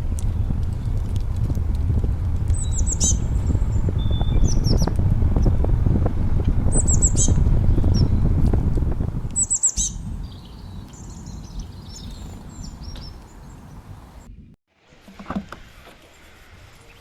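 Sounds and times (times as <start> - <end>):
birds chirping: 0.0 - 14.6
low rumble: 0.0 - 14.6.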